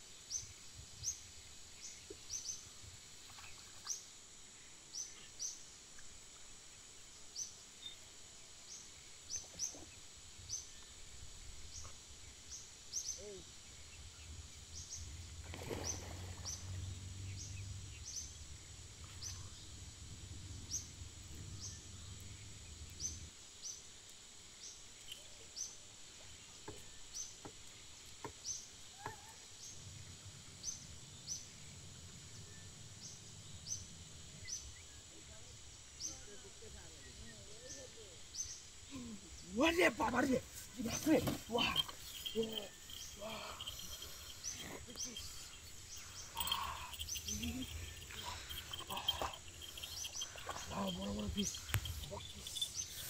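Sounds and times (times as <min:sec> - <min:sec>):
steady high-pitched hiss: 0:00.0 - 0:53.0.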